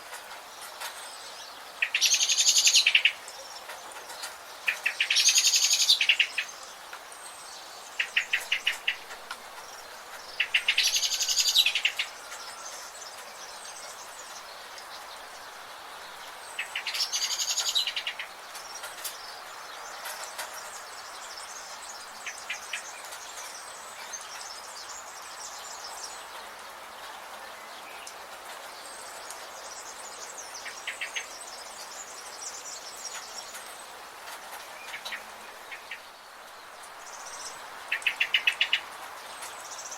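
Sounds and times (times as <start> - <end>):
background hiss: 0.0 - 39.9
birds chattering songs: 0.0 - 39.9.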